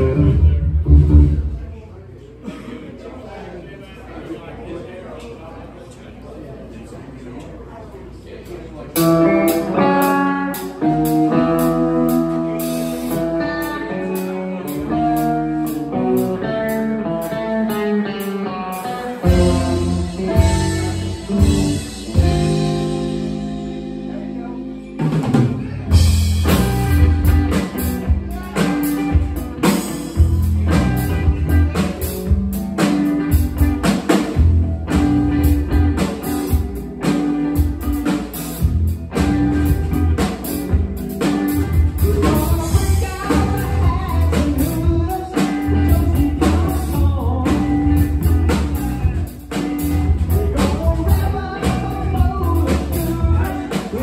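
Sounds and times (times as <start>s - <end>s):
bass guitar: 0.0s - 1.9s, 9.0s - 54.0s
drums: 0.0s - 2.7s, 8.4s - 54.0s.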